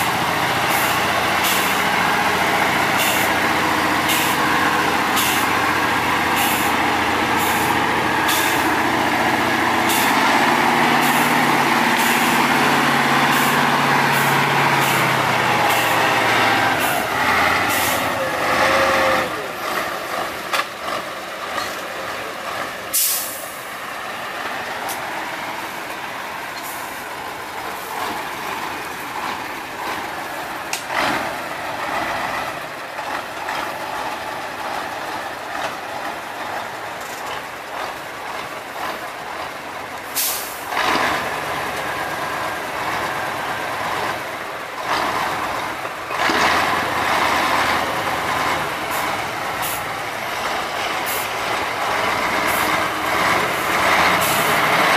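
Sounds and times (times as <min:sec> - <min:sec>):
truck engine under load: 0:00.0 - 0:54.9.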